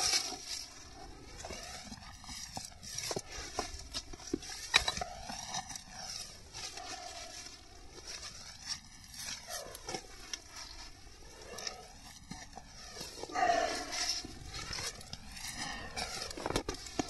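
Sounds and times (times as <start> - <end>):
package rustling and scraping: 1.4 - 17.0.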